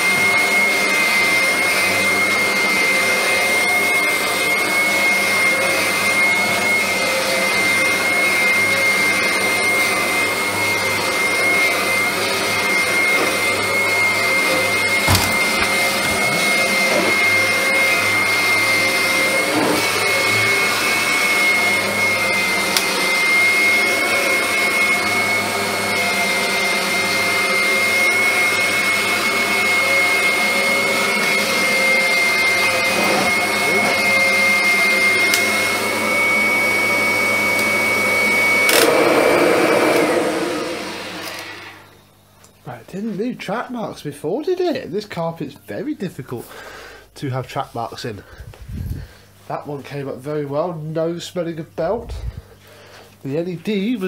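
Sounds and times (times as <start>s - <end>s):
vacuum cleaner motor whining: 0.0s - 42.6s, 50.6s - 54.0s.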